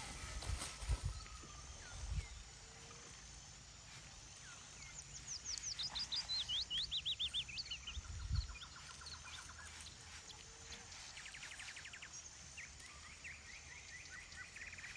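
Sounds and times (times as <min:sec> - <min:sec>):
small songbird singing trills: 0:00.0 - 0:14.9.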